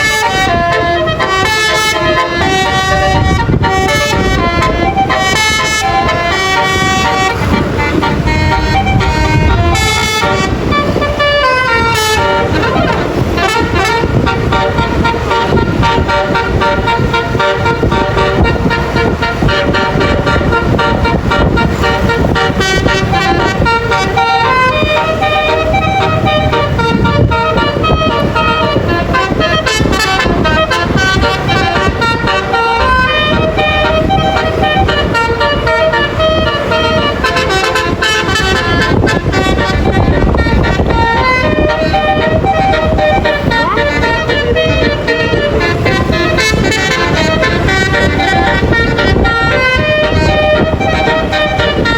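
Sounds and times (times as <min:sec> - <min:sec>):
engine and road noise: 0:00.0 - 0:51.9
musical bus horn: 0:00.0 - 0:51.9.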